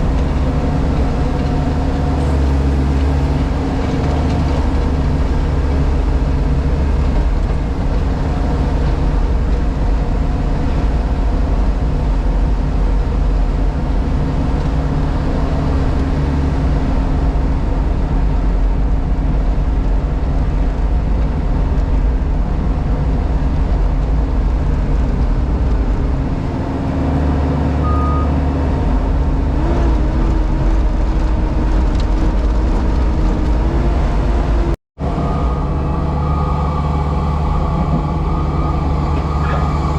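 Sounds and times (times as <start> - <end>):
diesel engine drone in cab: 0.0 - 39.9.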